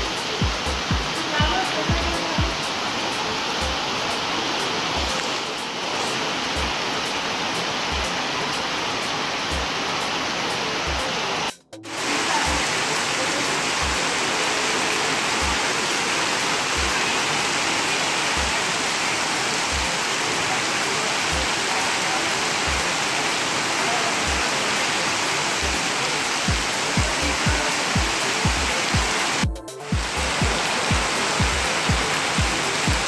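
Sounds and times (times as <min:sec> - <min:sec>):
heavy rain pouring: 0:00.0 - 0:33.0
water gushing from drain spouts: 0:06.1 - 0:33.0.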